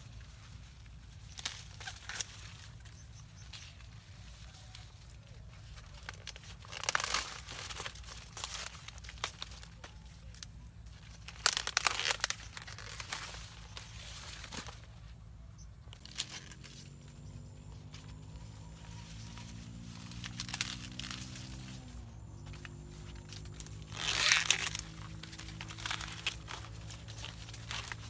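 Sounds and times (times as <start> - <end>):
dry rustling and crinkling: 0.0 - 28.0.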